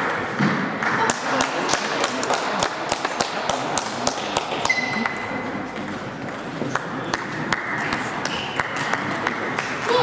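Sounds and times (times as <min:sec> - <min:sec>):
table tennis balls clicking: 0:00.0 - 0:10.0.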